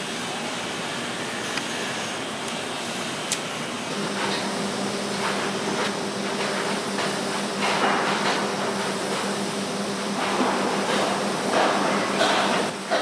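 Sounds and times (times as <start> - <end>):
welding arc hissing: 0.0 - 13.0.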